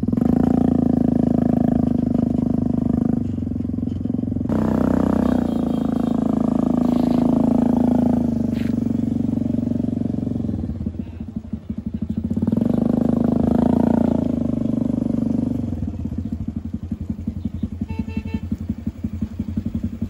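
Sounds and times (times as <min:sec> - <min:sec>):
petrol engine running: 0:01.2 - 0:20.0.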